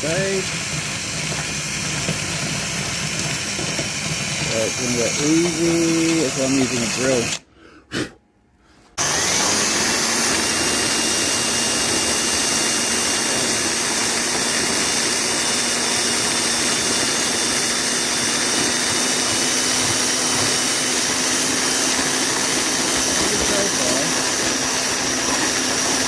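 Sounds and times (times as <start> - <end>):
electric drill whining: 0.0 - 7.4, 9.0 - 26.0.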